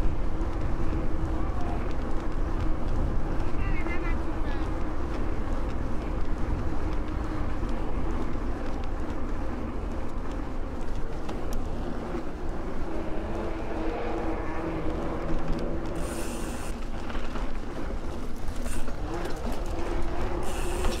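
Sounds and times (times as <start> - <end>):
bike tyres rolling on asphalt: 0.0 - 21.0.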